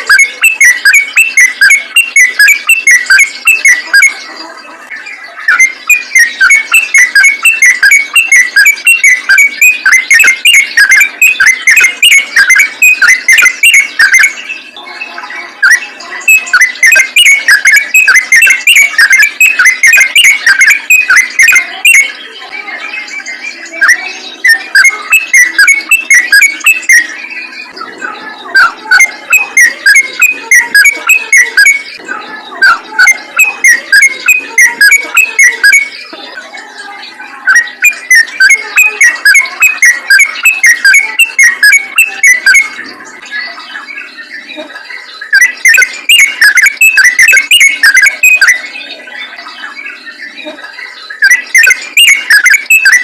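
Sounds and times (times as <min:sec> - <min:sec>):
bird singing bright chirping notes: 0:00.0 - 0:53.0.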